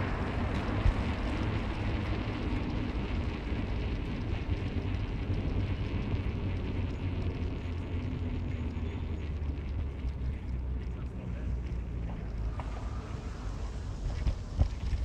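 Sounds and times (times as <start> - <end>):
car engine rumble: 0.0 - 15.0
tyre road noise: 0.0 - 15.0.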